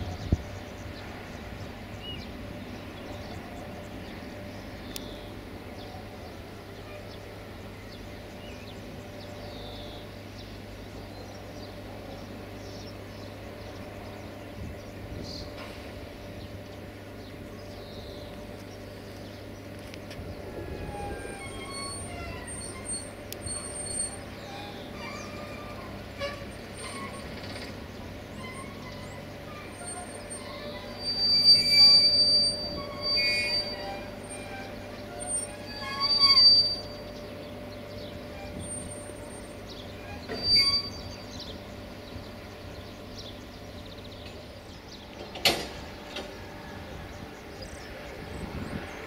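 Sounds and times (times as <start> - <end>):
train wheels squealing on rails: 0.0 - 14.5, 15.1 - 49.0.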